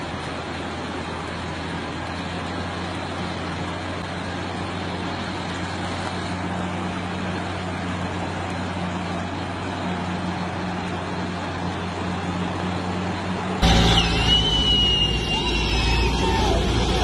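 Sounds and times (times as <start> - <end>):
diesel truck engine under load: 0.0 - 17.0
water rushing: 0.0 - 17.0.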